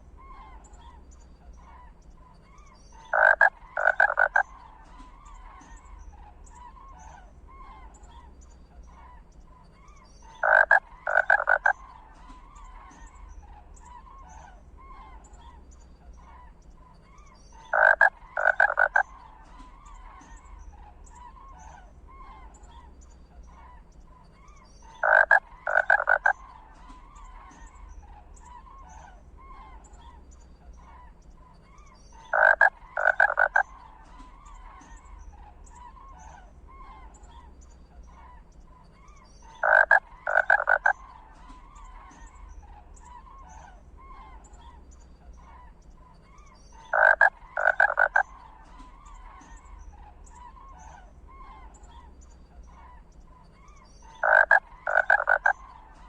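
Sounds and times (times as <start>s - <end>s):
faint chirping: 0.0s - 56.0s
loud croaking animal calls: 2.6s - 8.0s, 10.2s - 15.6s, 17.6s - 22.9s, 24.8s - 56.0s.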